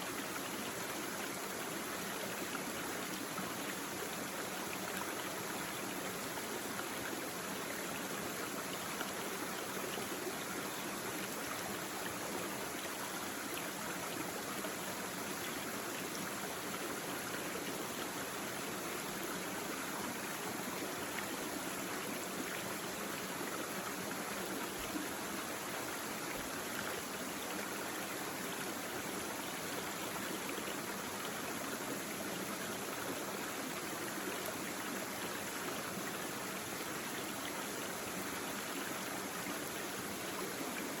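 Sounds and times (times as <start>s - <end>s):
stream babbling over stones: 0.1s - 41.0s.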